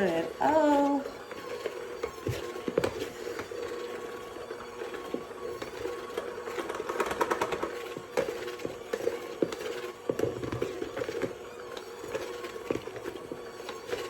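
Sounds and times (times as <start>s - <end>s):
electric mixer humming: 0.0s - 14.0s.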